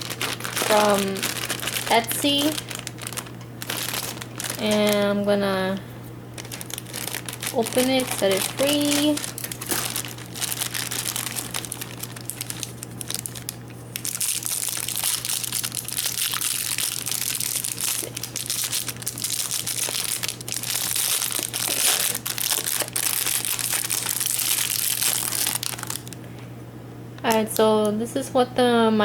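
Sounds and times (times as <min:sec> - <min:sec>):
packaging crinkling: 0:00.0 - 0:26.3.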